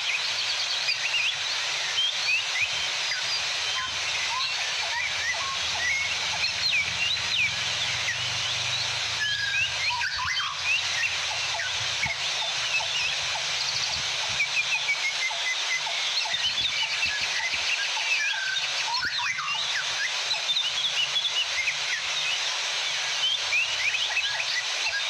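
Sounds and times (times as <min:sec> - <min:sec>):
birds chirping and singing: 0:00.0 - 0:25.0.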